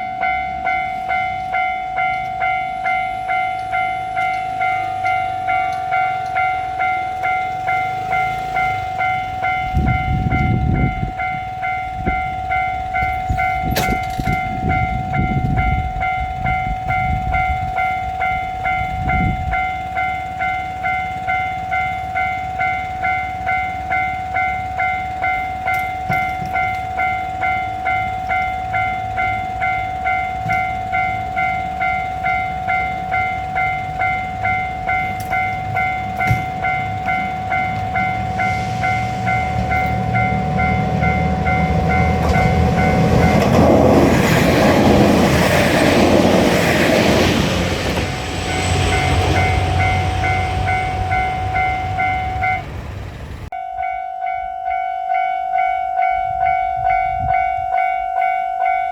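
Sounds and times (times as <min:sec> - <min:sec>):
level crossing warning bell: 0:00.0 - 0:58.9
train passing with rumble: 0:00.0 - 0:58.9
train wheels knocking: 0:03.4 - 0:53.5.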